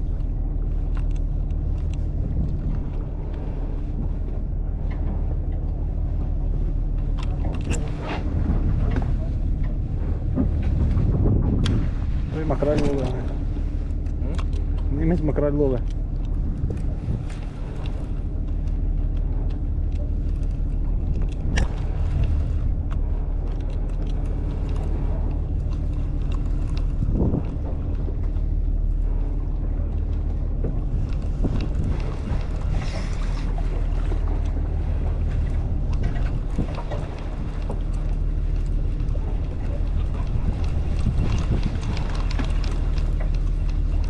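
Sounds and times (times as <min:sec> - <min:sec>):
boat engine drone: 0:00.0 - 0:44.0
wind on microphone: 0:00.0 - 0:44.0.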